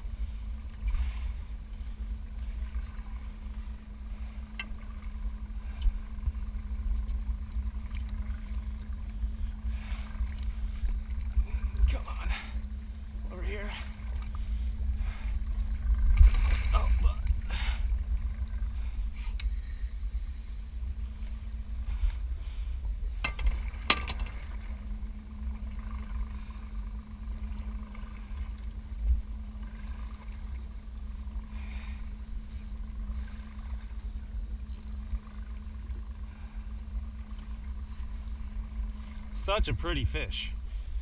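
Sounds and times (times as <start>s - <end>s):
boat motor running: 0.0s - 41.0s.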